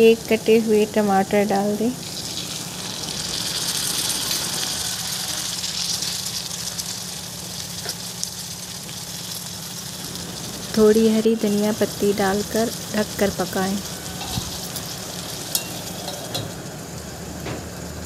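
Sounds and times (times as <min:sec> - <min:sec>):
food frying sizzle: 0:00.0 - 0:18.0.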